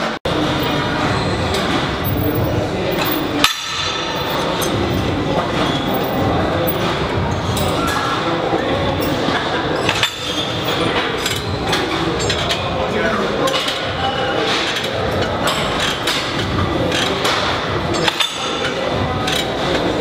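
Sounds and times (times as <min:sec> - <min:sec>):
gym weights clanking: 0:00.3 - 0:20.0.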